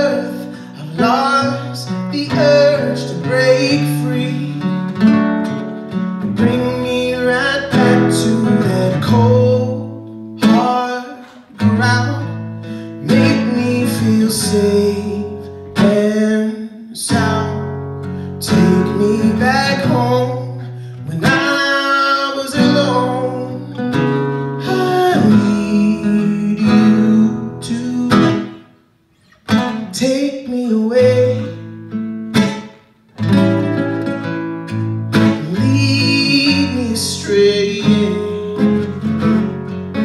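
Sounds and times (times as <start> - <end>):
man singing: 0.0 - 17.7, 18.4 - 28.7, 29.4 - 31.8, 35.1 - 40.0
acoustic guitar strumming: 0.0 - 40.0.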